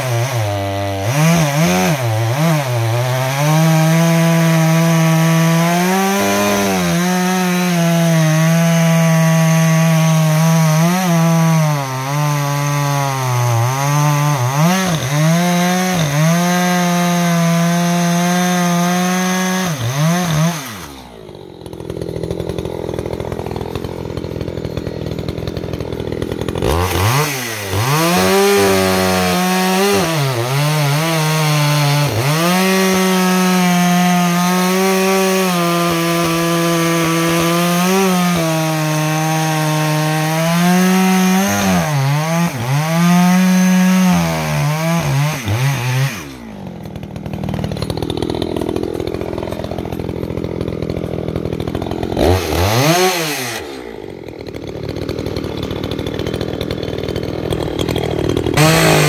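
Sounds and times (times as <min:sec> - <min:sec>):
chainsaw revving and cutting wood: 0:00.0 - 0:59.0
chainsaw rough idle: 0:00.0 - 0:59.0.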